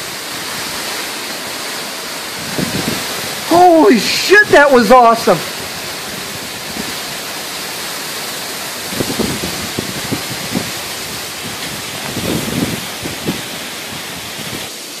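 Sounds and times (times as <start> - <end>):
heavy rain: 0.0 - 15.0
wind gusts: 0.0 - 15.0.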